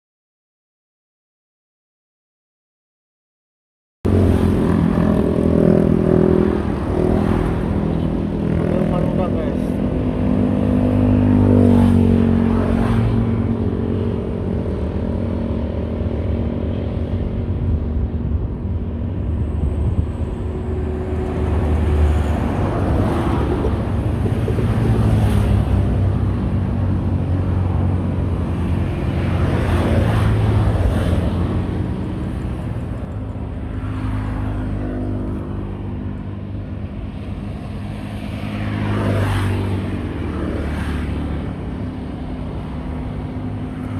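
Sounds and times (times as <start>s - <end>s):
highway traffic rumble: 4.0s - 43.9s
vehicles passing: 4.1s - 43.9s.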